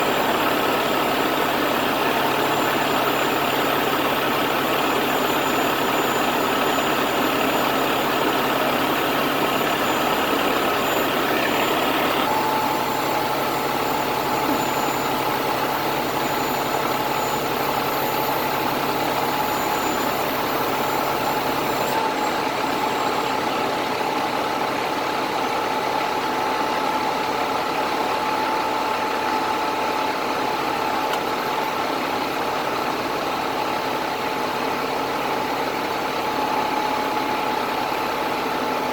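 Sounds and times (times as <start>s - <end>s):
thin steady whine: 0.0s - 24.8s, 25.4s - 38.9s
truck engine running: 0.0s - 38.9s.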